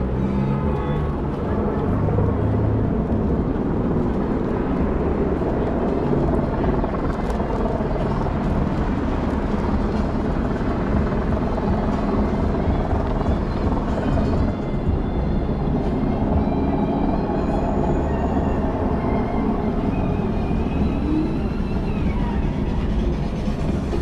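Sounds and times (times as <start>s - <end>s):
low mechanical street rumble: 0.0s - 24.0s.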